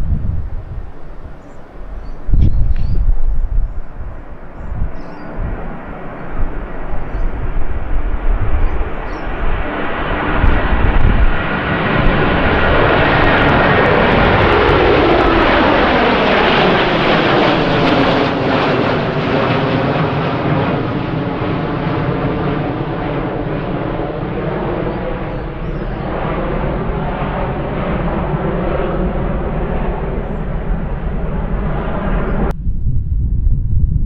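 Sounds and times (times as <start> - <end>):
jet airliner passing: 0.0 - 34.0
wind buffeting microphone: 0.0 - 34.0.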